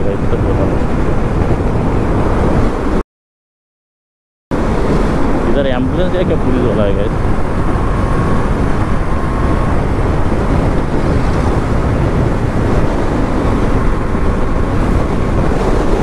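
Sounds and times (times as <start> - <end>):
wind buffeting microphone: 0.0 - 3.0, 4.5 - 16.0.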